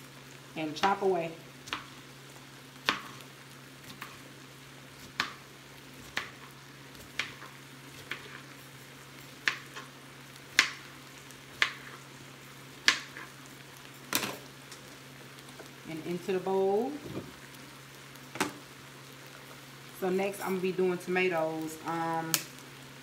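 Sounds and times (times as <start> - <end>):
meat sizzling faintly on grill: 0.0 - 23.0.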